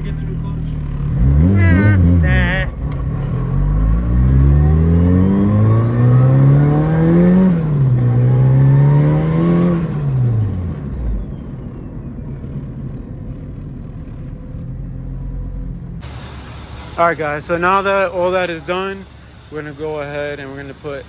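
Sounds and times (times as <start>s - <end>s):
turbo whine: 0.0s - 15.2s, 15.9s - 21.0s
car engine accelerating hard: 0.0s - 21.0s.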